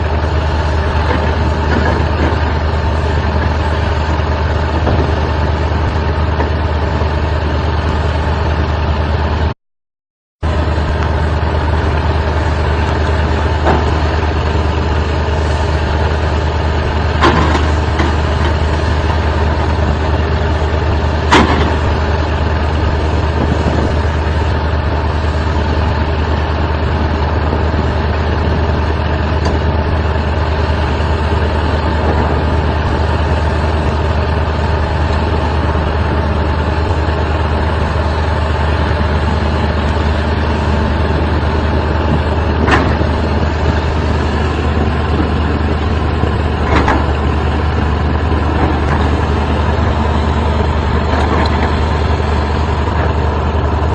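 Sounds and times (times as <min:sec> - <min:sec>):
excavator engine running: 0:00.0 - 0:09.6, 0:10.4 - 0:53.9.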